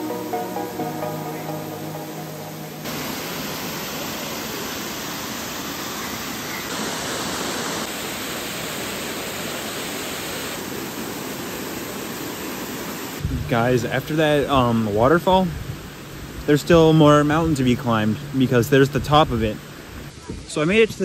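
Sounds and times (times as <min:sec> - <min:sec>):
waterfall rushing: 0:00.0 - 0:20.6.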